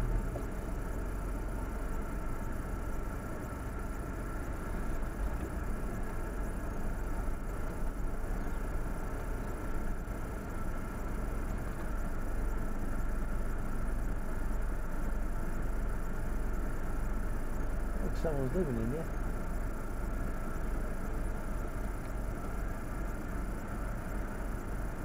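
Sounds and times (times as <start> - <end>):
vehicle engines idling: 0.0 - 25.0.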